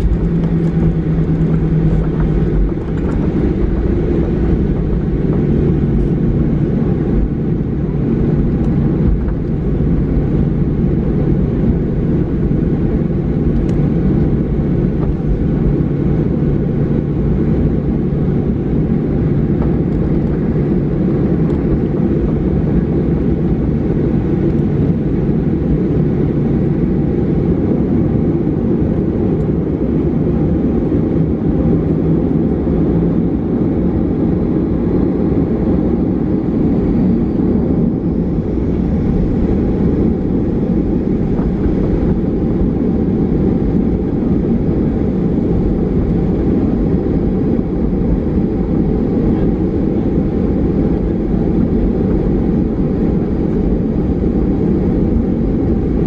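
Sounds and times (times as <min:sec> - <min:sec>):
aircraft engines low rumble: 0:00.0 - 0:56.0
steady low hum: 0:00.0 - 0:56.0.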